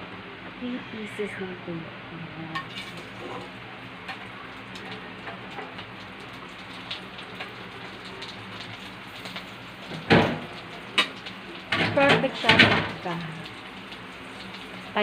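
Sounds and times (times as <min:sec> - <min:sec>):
fish sizzling in hot oil: 0:02.6 - 0:15.0.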